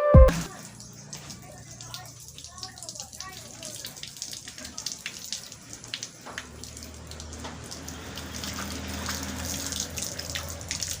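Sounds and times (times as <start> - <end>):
rain falling: 0.3 - 11.0.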